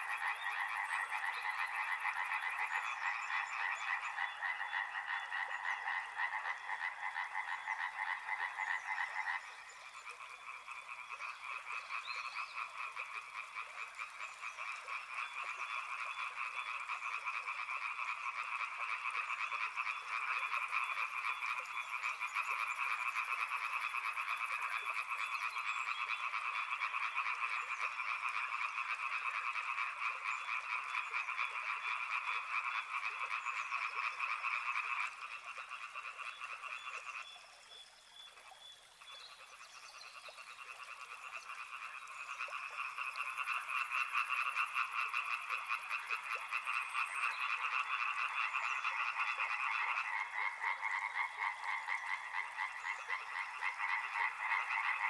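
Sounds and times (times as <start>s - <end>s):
chorus of frogs calling: 0.0s - 55.0s.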